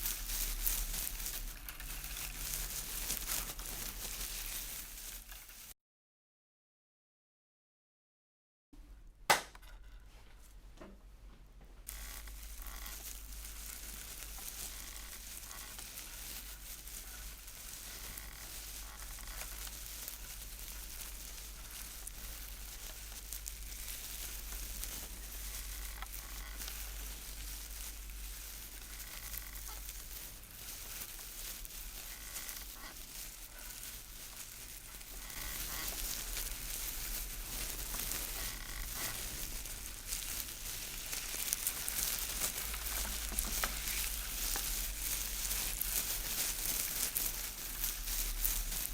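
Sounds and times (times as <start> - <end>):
steady rustling hiss: 0.0 - 5.7, 10.0 - 48.9.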